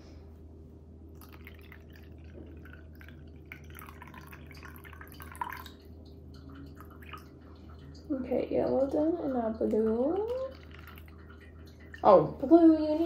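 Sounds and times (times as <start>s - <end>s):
light water drips: 1.1s - 13.0s
water trickling into cup: 1.1s - 13.0s.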